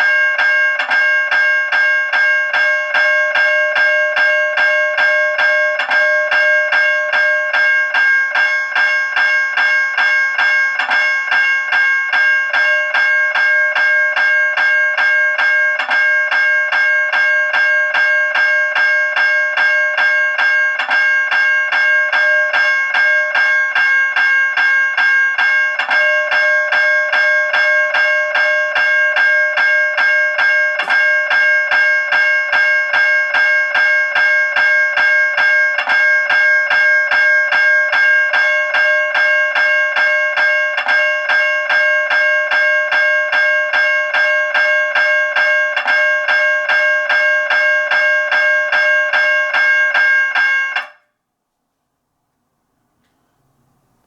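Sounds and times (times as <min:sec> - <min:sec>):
electronic crossing bell ringing: 0:00.0 - 0:51.1.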